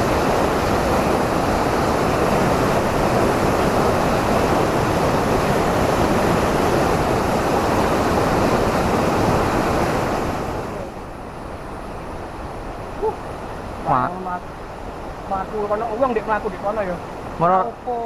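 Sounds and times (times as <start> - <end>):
fast-flowing river water: 0.0 - 18.0.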